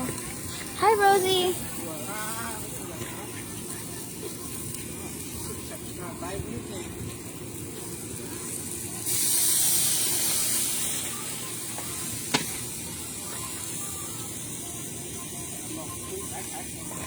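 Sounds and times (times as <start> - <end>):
grill hissing: 0.0 - 17.0.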